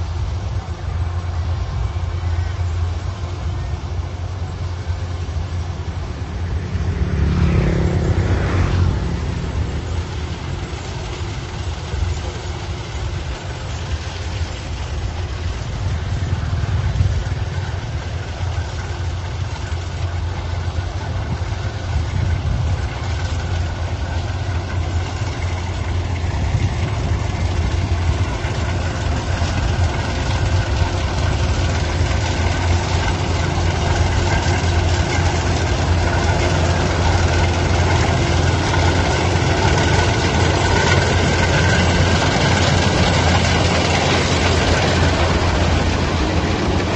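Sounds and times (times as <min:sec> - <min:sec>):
farm machine engine humming: 0:00.0 - 0:46.9.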